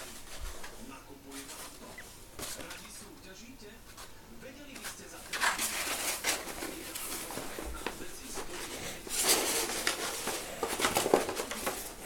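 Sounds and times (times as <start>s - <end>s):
paper rustling: 0.0s - 3.3s, 3.9s - 12.0s.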